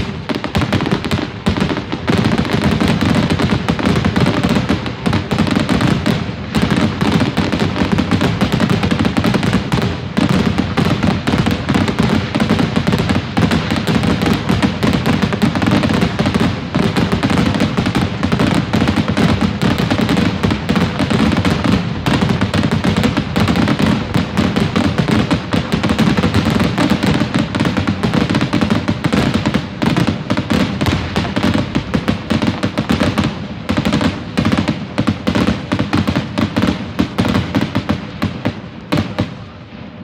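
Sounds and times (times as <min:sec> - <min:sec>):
fireworks booms and crackling: 0:00.0 - 0:40.0.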